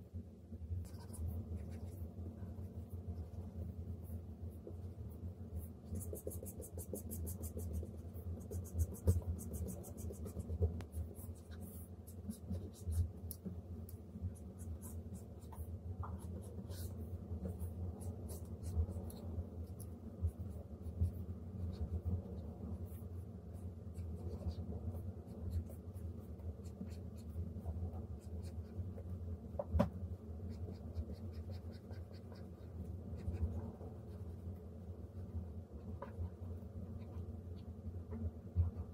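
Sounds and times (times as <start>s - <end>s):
steady low hum: 0.0s - 38.9s
stylus scratching and tapping on screen: 0.8s - 3.5s, 4.5s - 34.6s.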